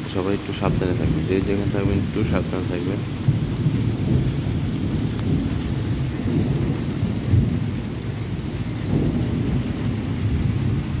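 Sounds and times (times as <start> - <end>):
low rumble of thunder: 0.0 - 11.0
steady rain: 0.0 - 11.0.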